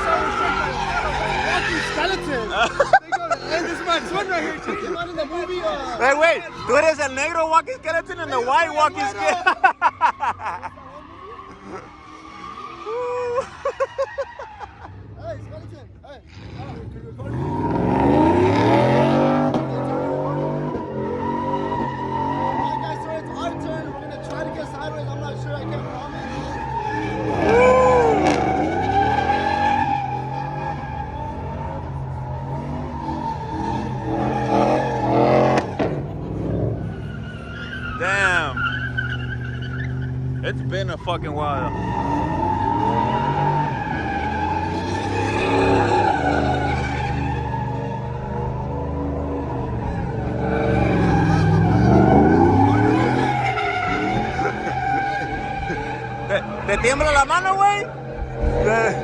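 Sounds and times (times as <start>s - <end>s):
tires squealing: 0.0s - 59.0s
truck engine revving: 0.0s - 59.0s.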